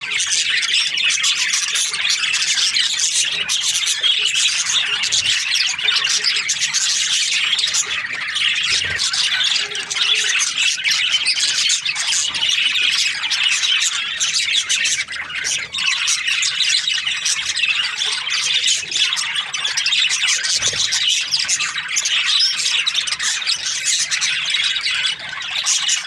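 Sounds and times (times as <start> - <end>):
budgerigars chirping: 0.0 - 26.0.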